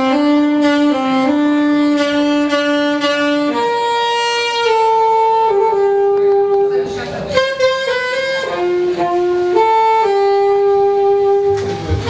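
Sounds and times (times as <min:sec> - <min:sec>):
saxophone playing slow jazz melody: 0:00.0 - 0:12.0.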